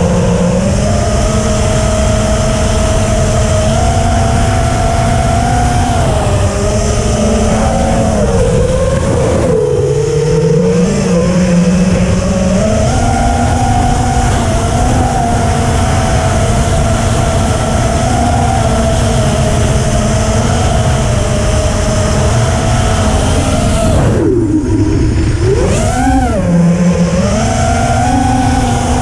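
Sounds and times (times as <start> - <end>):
drone motors whining: 0.0 - 29.0
wind rushing: 4.2 - 29.0.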